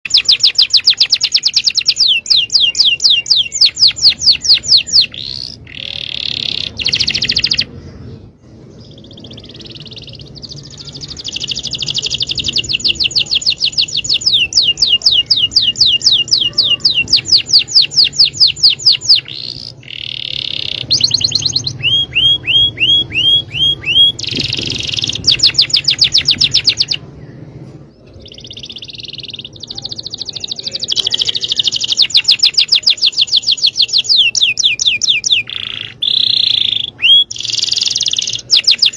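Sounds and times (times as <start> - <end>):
canary singing trills: 0.1 - 27.2, 28.0 - 38.9.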